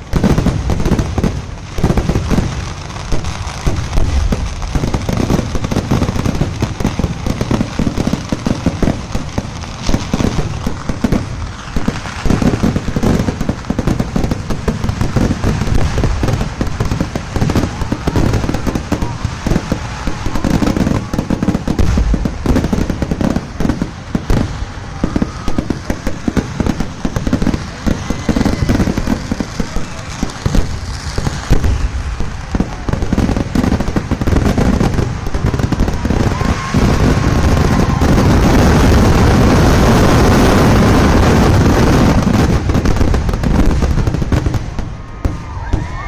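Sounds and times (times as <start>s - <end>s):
firecracker explosions: 0.0s - 46.0s.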